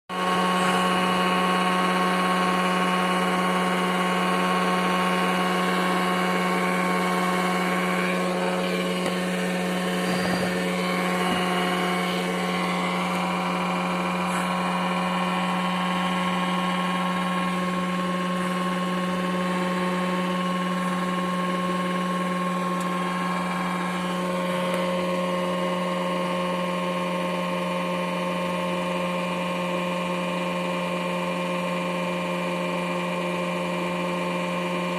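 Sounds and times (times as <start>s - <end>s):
car engine idling with exhaust leak: 0.1s - 34.9s.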